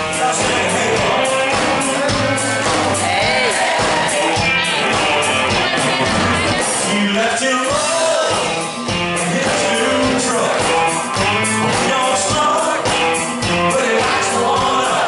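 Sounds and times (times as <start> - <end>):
live country band playing: 0.0 - 15.0
man singing into a microphone: 0.0 - 15.0.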